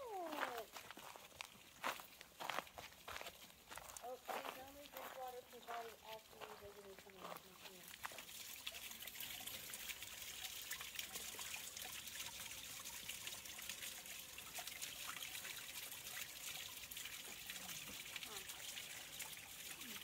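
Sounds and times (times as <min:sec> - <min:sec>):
water drips and splashes: 0:00.0 - 0:20.0
water trickling down rock: 0:00.0 - 0:20.0.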